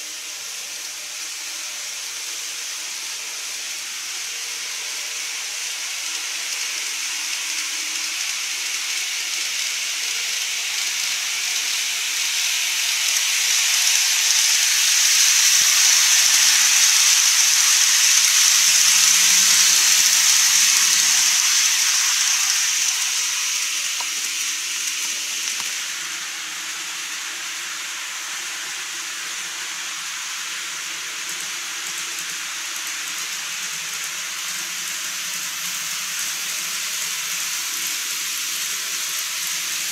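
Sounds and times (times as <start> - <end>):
model train hissing: 0.0 - 39.9.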